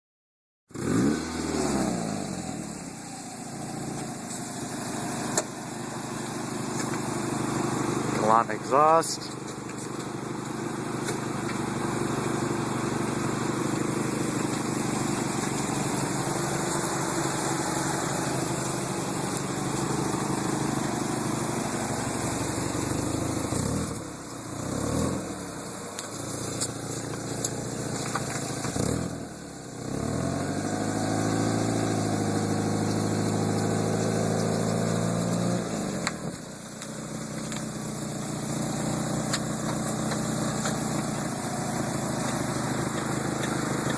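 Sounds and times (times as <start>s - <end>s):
car engine idling and revving: 0.7s - 43.9s.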